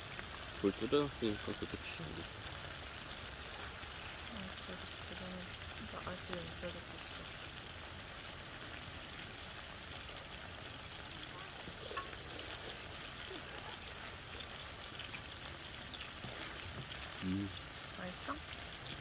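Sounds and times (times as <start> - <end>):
meat sizzling on griddle: 0.0 - 19.0.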